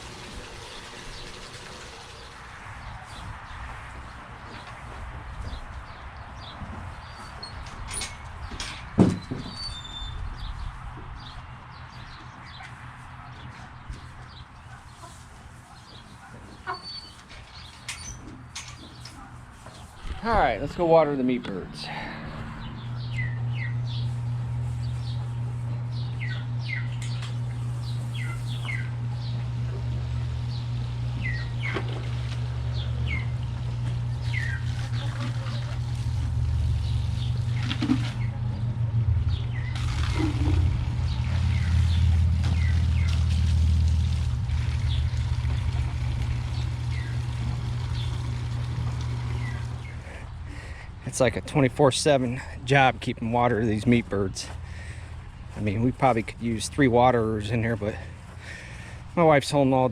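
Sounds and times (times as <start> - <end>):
low motor hum: 0.0 - 8.8, 9.5 - 59.9
birds chirping: 0.0 - 59.9.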